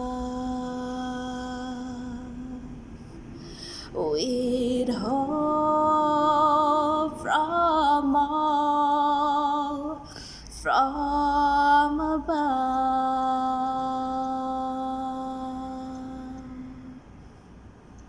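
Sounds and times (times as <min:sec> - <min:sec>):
woman singing unaccompanied: 0:00.0 - 0:02.9, 0:03.8 - 0:17.1.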